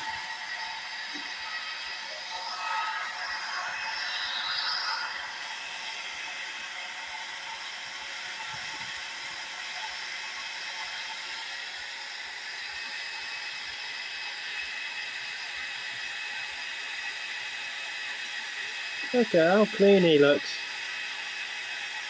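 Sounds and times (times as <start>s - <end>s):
hair dryer whirring: 0.0s - 22.0s.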